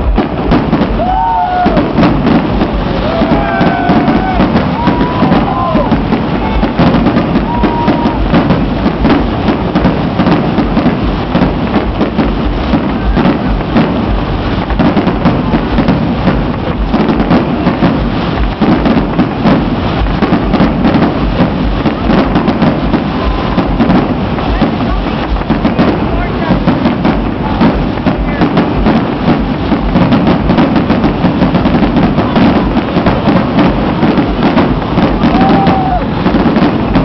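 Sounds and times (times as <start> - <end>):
fireworks bangs and crackles: 0.0 - 37.0
low firework booms: 0.0 - 37.0.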